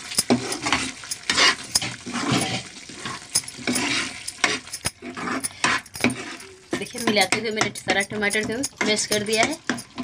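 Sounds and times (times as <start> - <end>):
spatula stirring thick sauce: 0.0 - 10.0
spatula tapping pan: 0.0 - 10.0.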